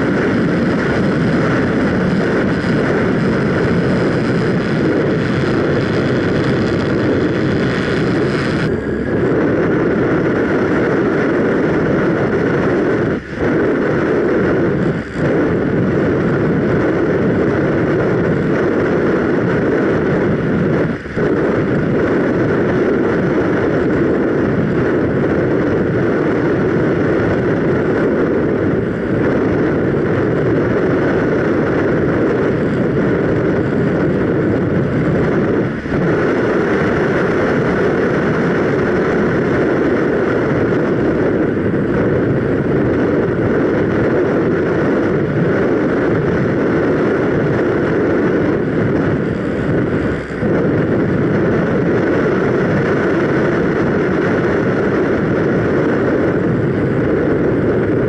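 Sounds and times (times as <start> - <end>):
electric motor noise: 0.0 - 57.8
rushing airflow: 0.0 - 58.0.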